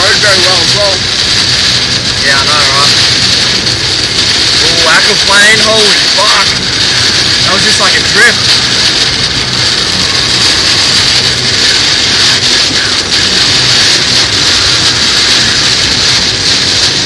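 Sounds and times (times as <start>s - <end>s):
car engine running: 0.0s - 17.0s
heavy rain on car: 0.0s - 17.0s
tyres hissing through water: 0.0s - 17.0s.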